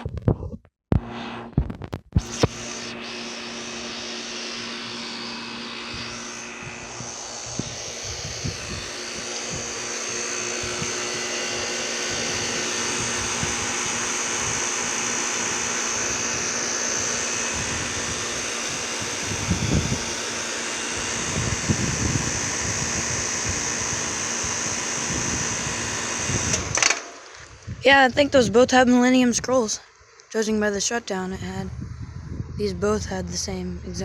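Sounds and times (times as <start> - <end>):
compressor humming: 1.0 - 34.0
condenser fan rushing: 2.2 - 34.0.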